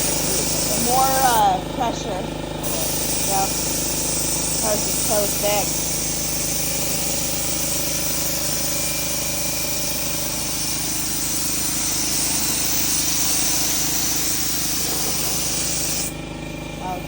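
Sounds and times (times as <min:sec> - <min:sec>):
small engine machine humming: 0:00.0 - 0:17.0.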